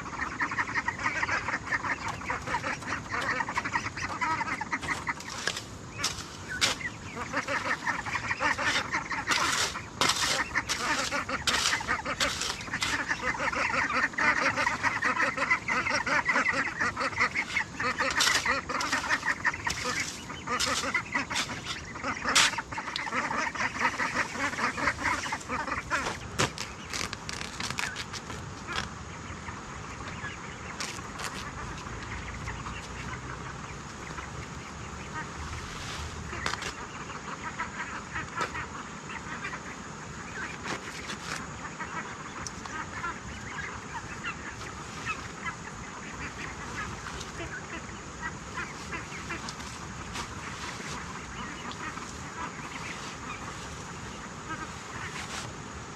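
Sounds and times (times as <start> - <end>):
waterfowl calling: 0.0 - 55.5.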